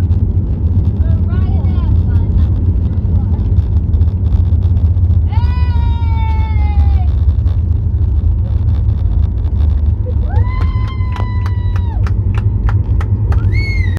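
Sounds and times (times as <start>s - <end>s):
airliner low rumble: 0.0s - 13.9s.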